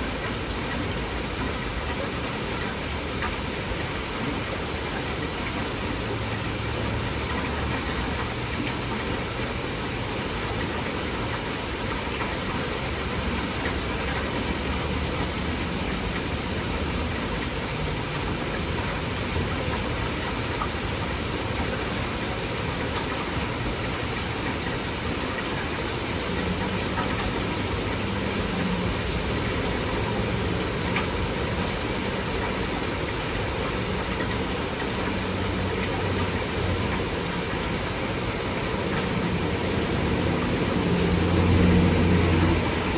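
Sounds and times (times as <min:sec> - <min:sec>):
heavy rain downpour: 0:00.0 - 0:42.9.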